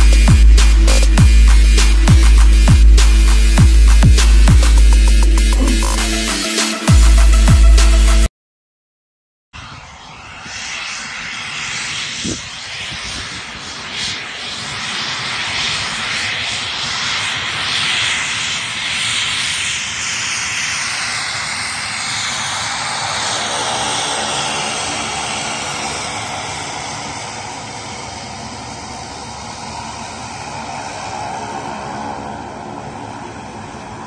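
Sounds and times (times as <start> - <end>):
turboprop plane taxiing: 0.0 - 8.2, 9.6 - 34.0
high engine whine: 0.0 - 8.3, 9.6 - 34.0.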